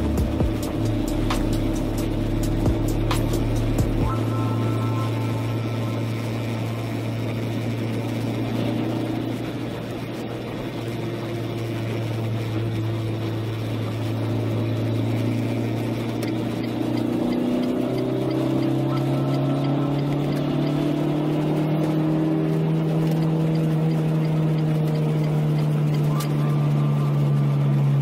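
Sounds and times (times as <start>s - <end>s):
tyres hissing on wet road: 0.0s - 27.9s
car engine hum: 0.0s - 28.0s.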